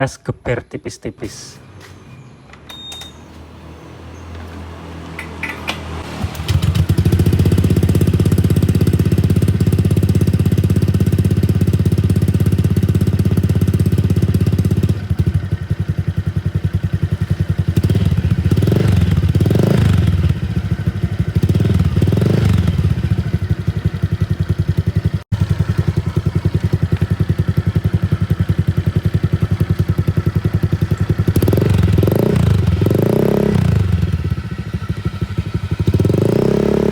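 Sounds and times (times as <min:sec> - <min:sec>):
scooter engine revving: 0:03.9 - 0:36.9.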